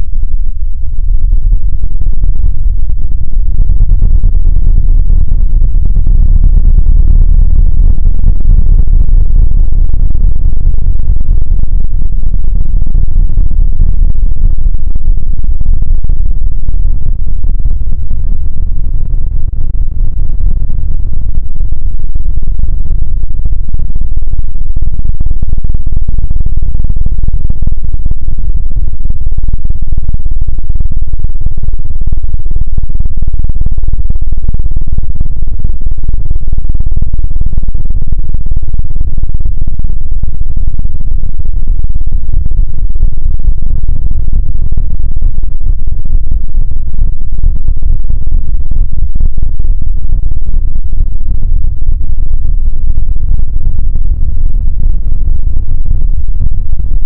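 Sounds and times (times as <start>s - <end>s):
deep continuous rumble: 0.0s - 57.0s.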